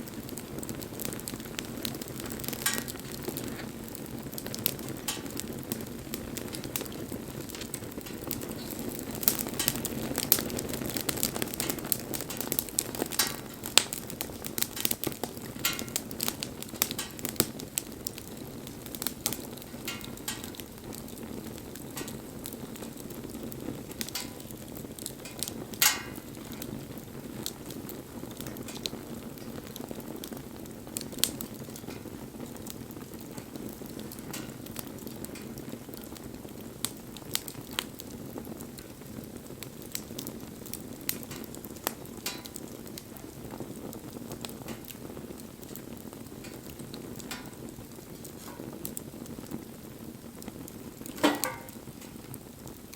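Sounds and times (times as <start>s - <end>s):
burning wood crackling and popping: 0.0s - 52.9s
campfire flames rushing: 0.0s - 52.9s.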